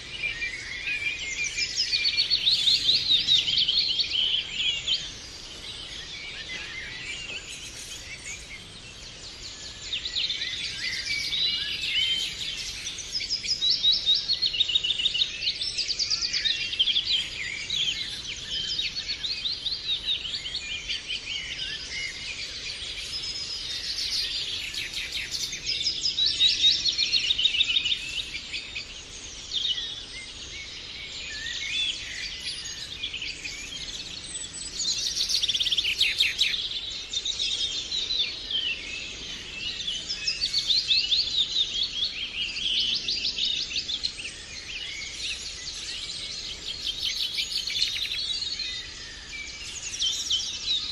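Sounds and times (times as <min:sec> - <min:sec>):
birds chirping and trilling: 0:00.0 - 0:50.9.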